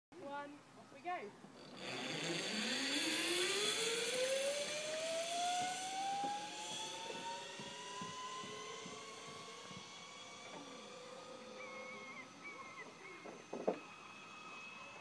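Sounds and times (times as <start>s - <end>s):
zipline pulleys whining: 1.5s - 15.0s.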